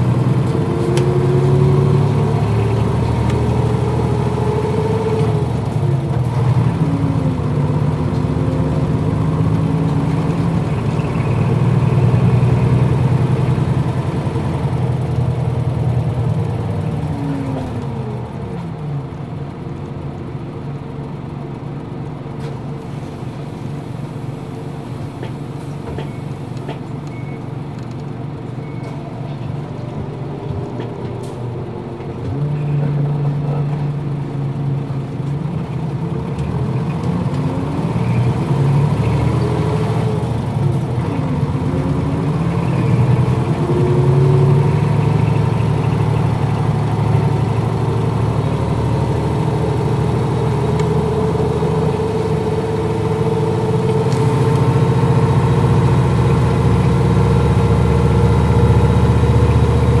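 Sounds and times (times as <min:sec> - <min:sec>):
bus diesel engine accelerating: 0:00.0 - 1:00.0.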